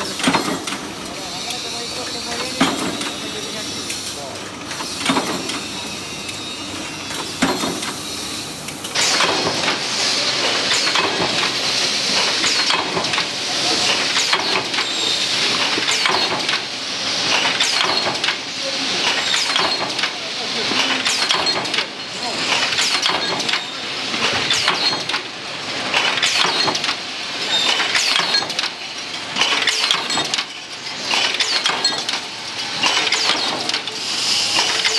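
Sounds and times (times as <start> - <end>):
machinery running: 0.0 - 34.9.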